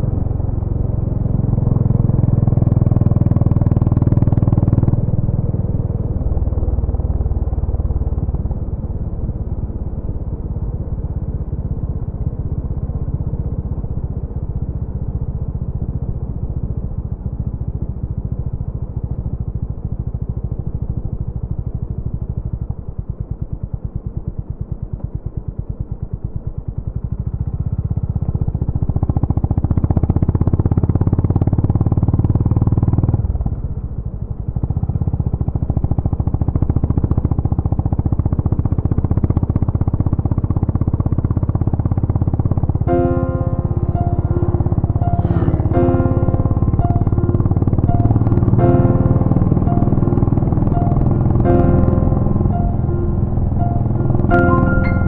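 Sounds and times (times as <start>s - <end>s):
single-cylinder motorcycle engine running: 0.0s - 55.0s.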